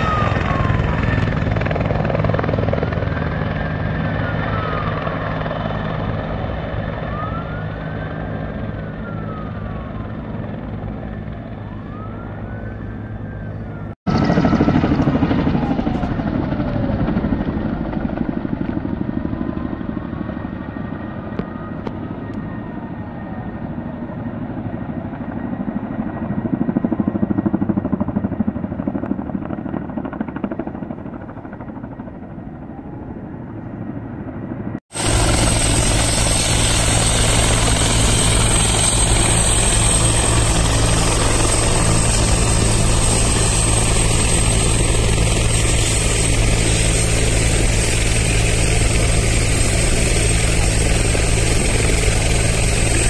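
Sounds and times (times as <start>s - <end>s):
helicopter rotor drone: 0.0s - 53.0s
helicopter turbine whine: 0.0s - 53.0s.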